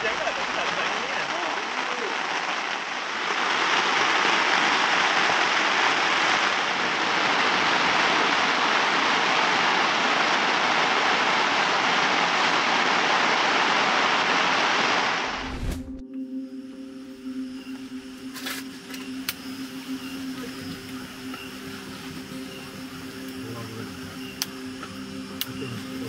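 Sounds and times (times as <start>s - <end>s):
rushing water hiss: 0.0s - 15.7s, 17.2s - 26.0s.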